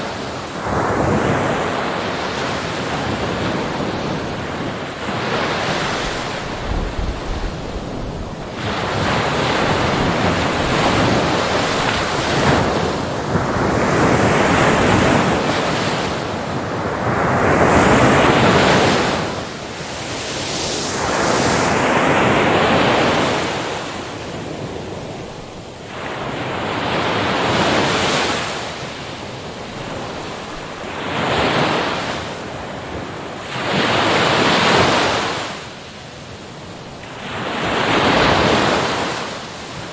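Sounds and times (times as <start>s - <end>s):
ocean waves breaking on beach: 0.0s - 39.9s
wind rumble on microphone: 0.0s - 39.9s.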